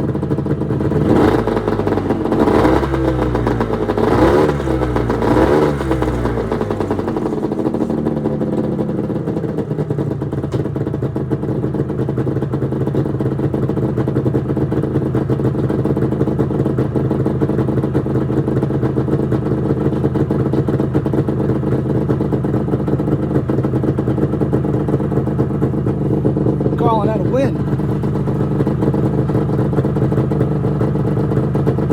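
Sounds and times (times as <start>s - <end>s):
snowmobile engine revving and idling: 0.0s - 31.9s.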